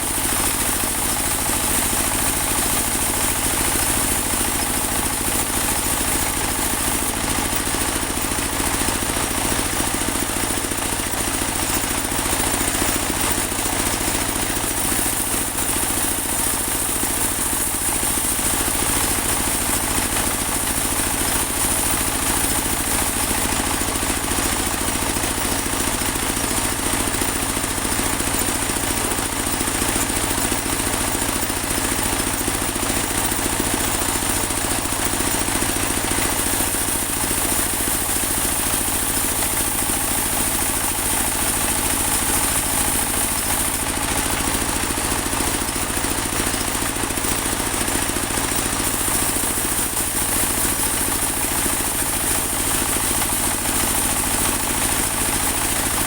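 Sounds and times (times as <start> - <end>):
sawmill engine drone and whine: 0.0 - 56.0.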